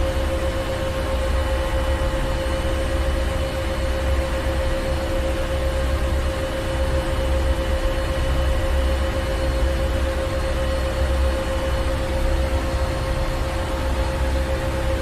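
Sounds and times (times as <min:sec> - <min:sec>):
constant humming tone: 0:00.0 - 0:15.0.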